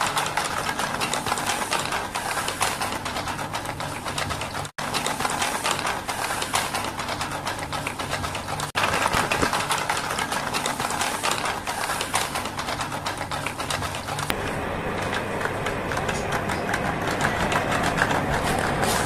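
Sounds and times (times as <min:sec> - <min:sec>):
toy motor whirring: 0:00.0 - 0:14.4, 0:15.5 - 0:19.0
gears clattering: 0:00.0 - 0:19.0.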